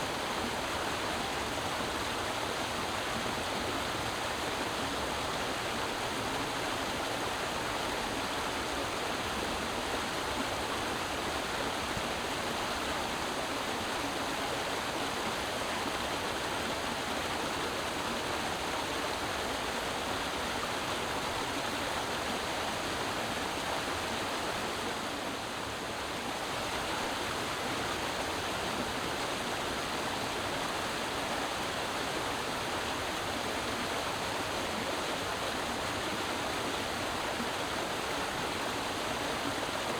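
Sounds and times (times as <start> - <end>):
creek water flowing over rocks: 0.0 - 39.9.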